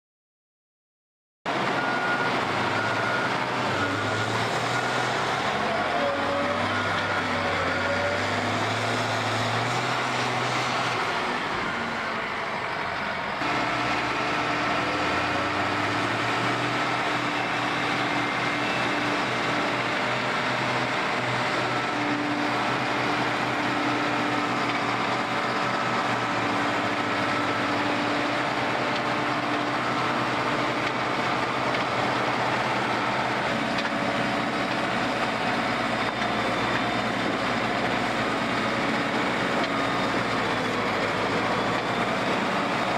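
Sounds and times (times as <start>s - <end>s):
diesel construction machinery running: 1.5s - 42.9s.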